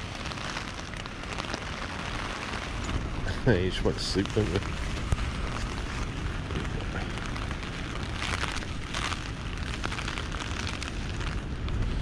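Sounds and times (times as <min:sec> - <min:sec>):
light rain on tent fabric: 0:00.0 - 0:12.0
wind buffeting tent: 0:00.0 - 0:12.0.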